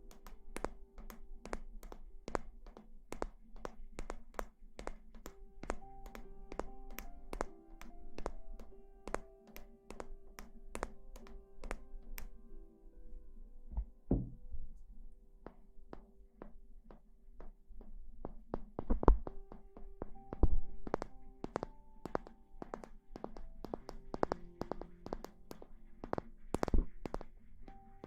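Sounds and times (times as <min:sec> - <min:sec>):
sharp taps and knocks: 0:00.0 - 0:12.3, 0:13.8 - 0:14.4, 0:15.4 - 0:27.3
soft background music: 0:00.0 - 0:28.0.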